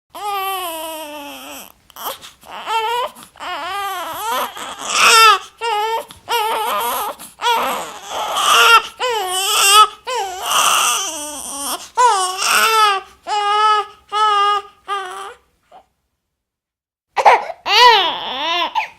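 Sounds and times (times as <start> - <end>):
infant crying: 0.1 - 15.9, 17.2 - 18.9.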